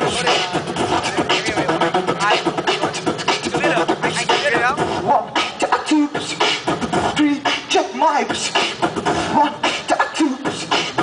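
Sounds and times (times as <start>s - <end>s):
beatboxing into microphone: 0.0s - 11.0s.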